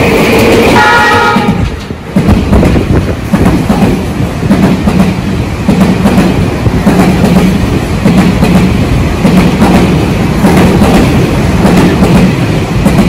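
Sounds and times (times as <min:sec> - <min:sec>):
train wheels clattering over rails: 0:00.0 - 0:13.0.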